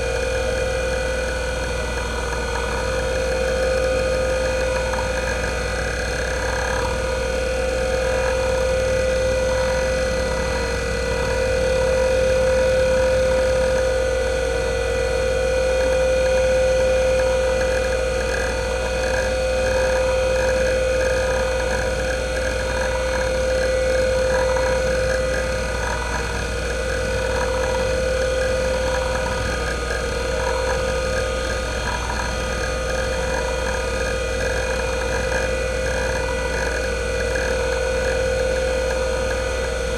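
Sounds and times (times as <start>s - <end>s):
hard drive spindle whine: 0.0s - 39.9s.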